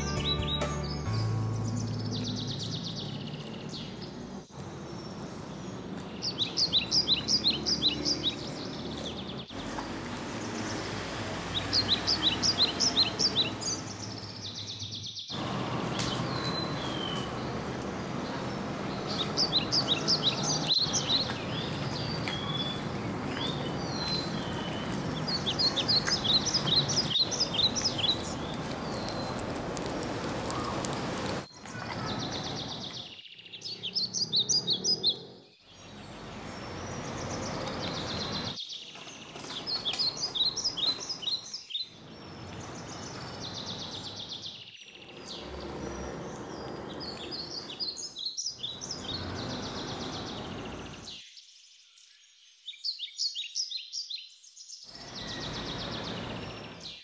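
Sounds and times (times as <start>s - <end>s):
outdoor background noise: 0.0s - 57.0s
songbird chirping: 0.0s - 57.0s.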